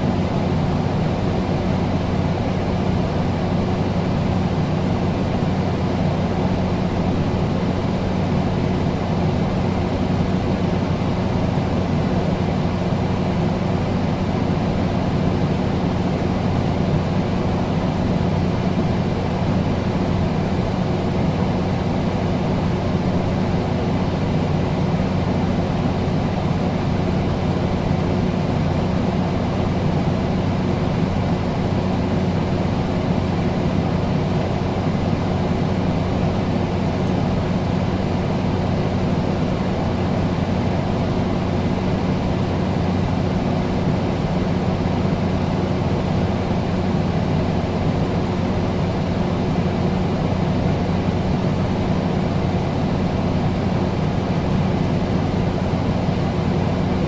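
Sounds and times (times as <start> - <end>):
air conditioner running: 0.0 - 57.0.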